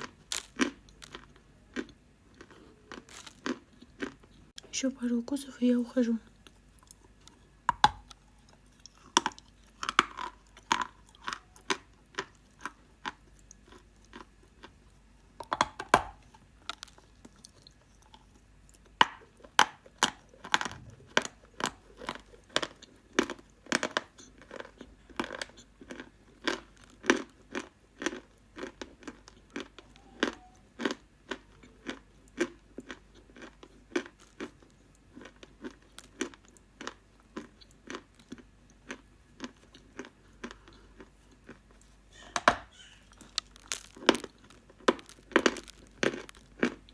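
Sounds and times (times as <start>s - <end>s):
crunchy chewing: 0.0s - 4.6s, 6.2s - 46.9s.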